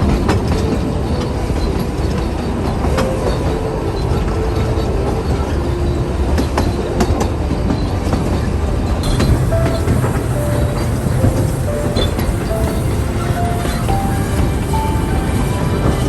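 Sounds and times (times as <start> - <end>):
steam train rumble: 0.0 - 16.0.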